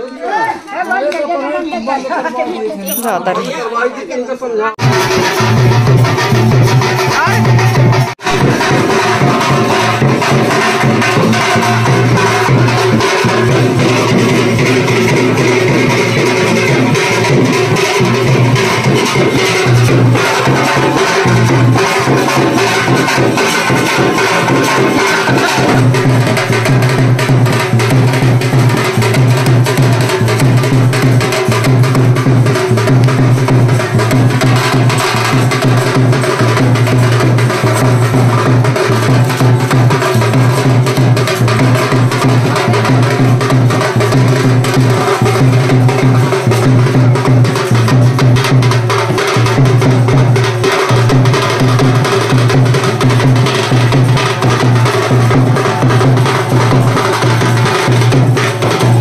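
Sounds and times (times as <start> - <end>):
fast clacking drum beat: 4.8 - 59.0.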